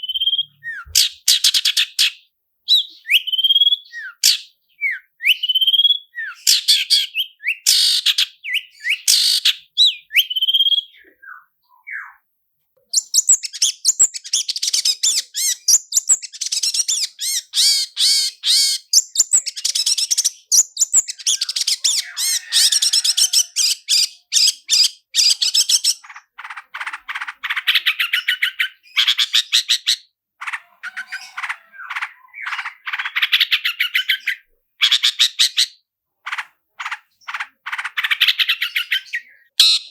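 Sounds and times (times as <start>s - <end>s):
bird singing trills and whistles: 0.0s - 12.2s, 12.9s - 39.9s.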